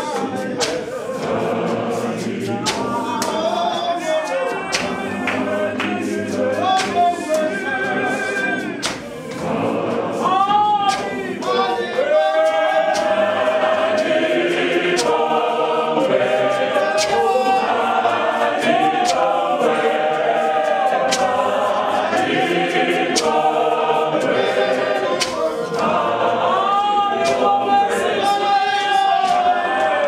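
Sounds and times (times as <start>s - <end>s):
congregation singing a cappella: 0.0s - 30.0s.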